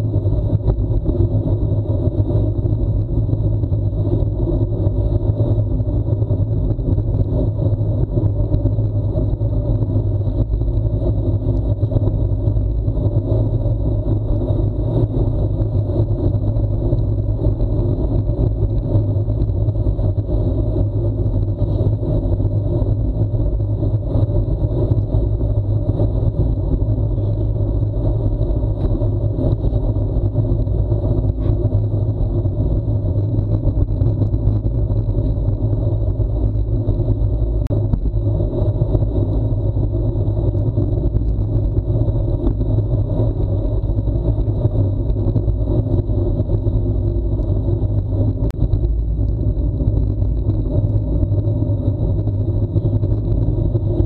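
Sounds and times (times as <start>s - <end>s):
bicycle tyre noise on asphalt: 0.0s - 54.0s
wind buffeting microphone: 0.0s - 54.0s.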